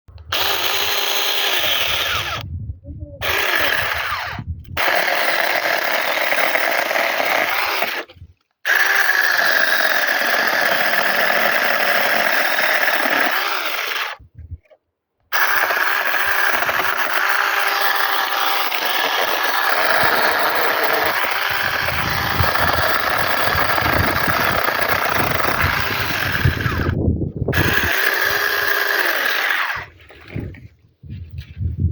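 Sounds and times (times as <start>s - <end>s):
mini chainsaw motor whine: 0.3s - 2.4s, 3.2s - 8.1s, 8.7s - 14.2s, 15.3s - 30.6s.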